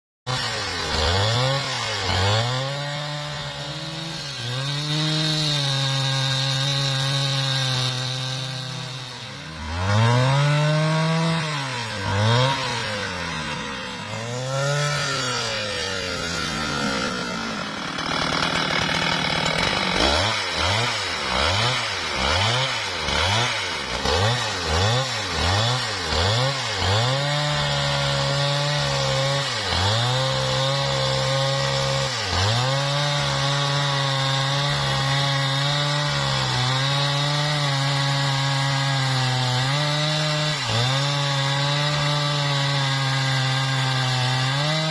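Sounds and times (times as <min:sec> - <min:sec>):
chainsaw revving and sawing wood: 0:00.2 - 0:44.9.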